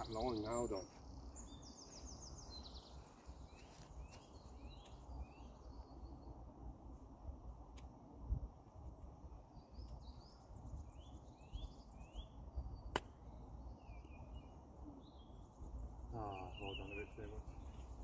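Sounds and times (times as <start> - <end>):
small birds chirping: 0.0 - 6.7, 8.8 - 18.0.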